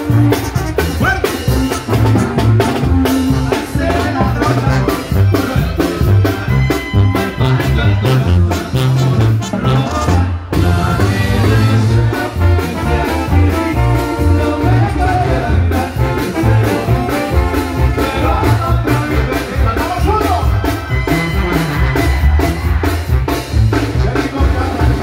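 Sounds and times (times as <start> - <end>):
drums keeping a beat: 0.0 - 25.0
sousaphone bass line: 0.0 - 25.0
trumpets and brass: 0.0 - 25.0.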